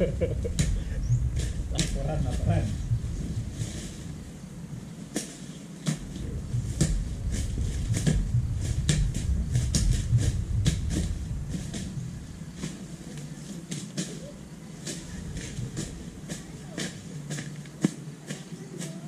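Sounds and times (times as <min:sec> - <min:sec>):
low uneven rumble: 0:00.0 - 0:19.0
weeds snapping and clicking: 0:00.4 - 0:04.2, 0:05.1 - 0:19.0.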